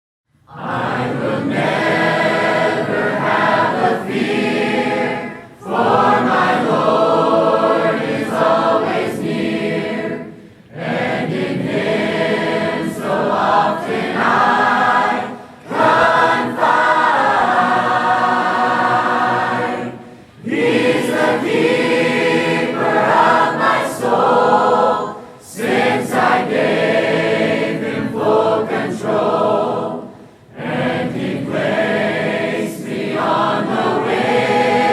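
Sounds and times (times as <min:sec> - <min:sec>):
choir singing: 0:00.5 - 0:34.9.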